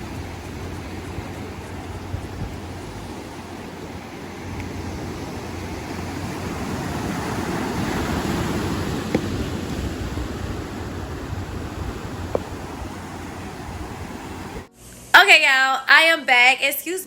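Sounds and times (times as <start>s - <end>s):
ocean surf washing on beach: 0.0s - 14.7s.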